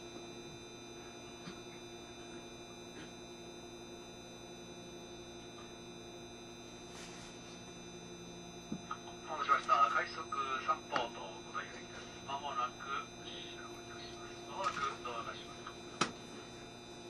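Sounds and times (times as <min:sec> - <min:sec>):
electric train electrical hum: 0:00.0 - 0:17.0.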